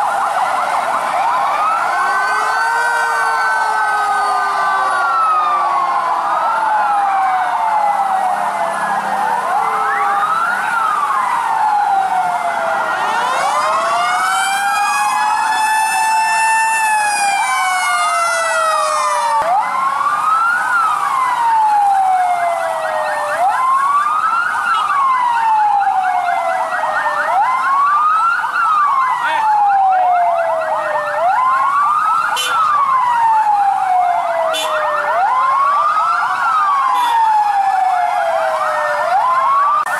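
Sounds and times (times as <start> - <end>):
sirens wailing: 0.0 - 39.9
slow siren wail: 0.0 - 39.9.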